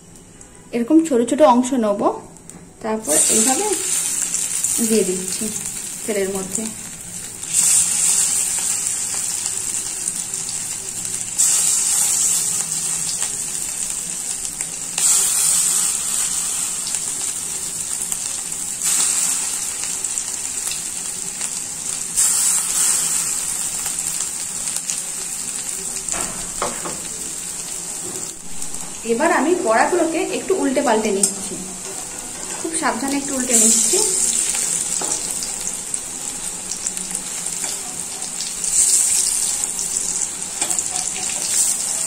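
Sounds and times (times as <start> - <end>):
batter frying in hot oil: 2.9 - 42.0.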